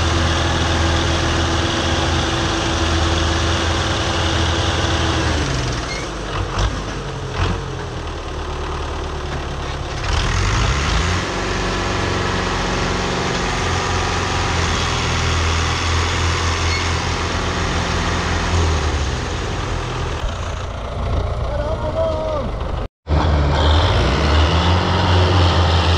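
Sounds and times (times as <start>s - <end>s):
tractor diesel engine straining: 0.0s - 25.9s.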